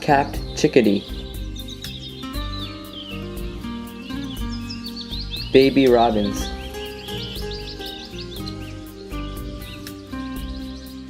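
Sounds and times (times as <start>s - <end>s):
background music with steady beat: 0.0s - 11.0s
high bird chirps: 0.0s - 11.0s.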